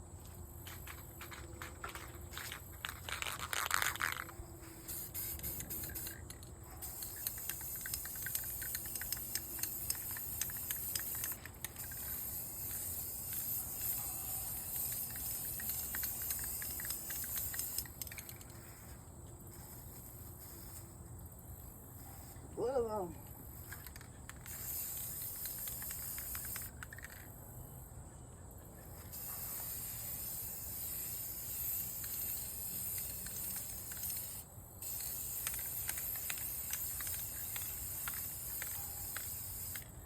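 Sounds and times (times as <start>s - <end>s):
aerosol spray can hissing: 1.9s - 20.8s, 23.5s - 26.8s, 29.0s - 39.9s.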